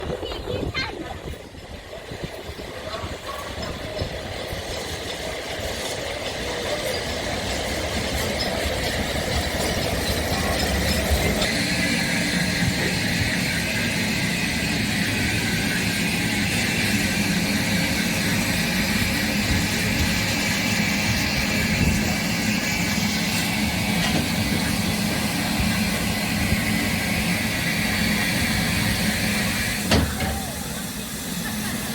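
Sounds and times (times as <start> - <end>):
steam hissing: 1.3 - 31.9.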